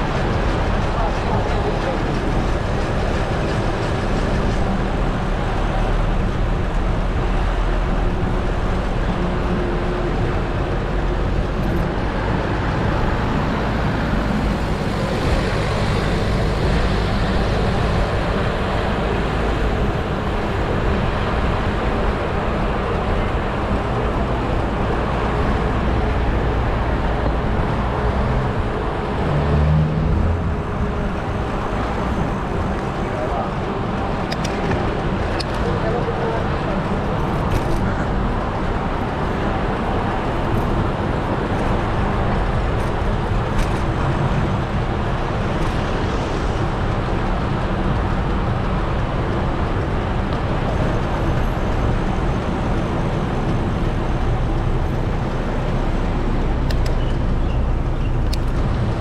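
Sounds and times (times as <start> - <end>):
road traffic of cars and buses: 0.0 - 59.0.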